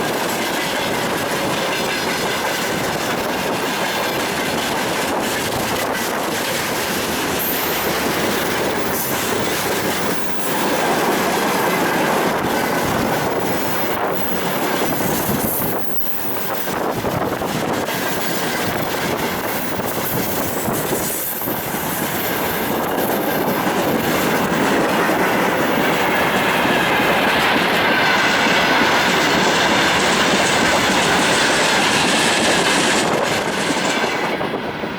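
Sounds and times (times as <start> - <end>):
train wheels clattering: 0.0 - 34.8.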